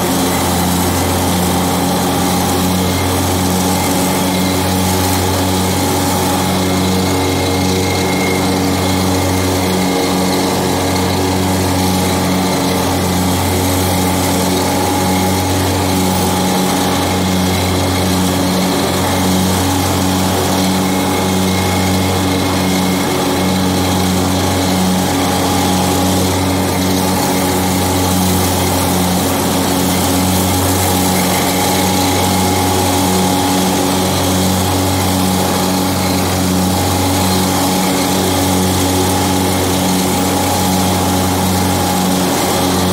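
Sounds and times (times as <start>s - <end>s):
lawn tractor engine mowing grass: 0.0s - 42.9s.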